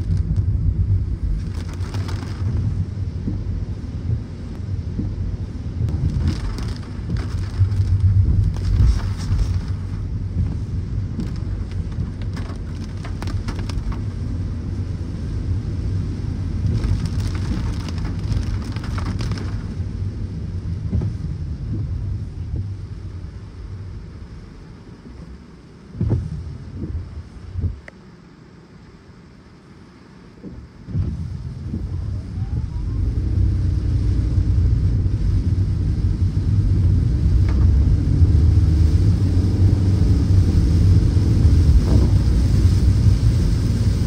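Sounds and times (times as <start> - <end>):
tyres rumbling on wet road: 0.0 - 25.1, 30.8 - 44.0
rain hissing: 0.0 - 44.0.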